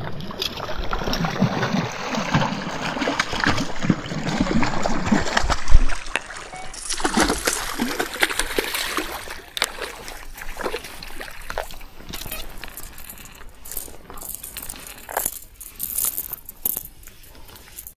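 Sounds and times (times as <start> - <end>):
fish splashing at water surface: 0.0 - 15.6.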